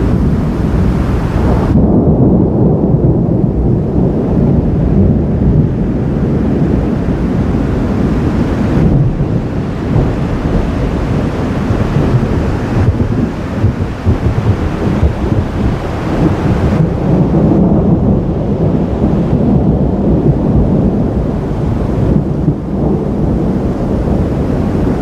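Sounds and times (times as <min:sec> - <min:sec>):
thunder rumbling: 0:00.0 - 0:25.0.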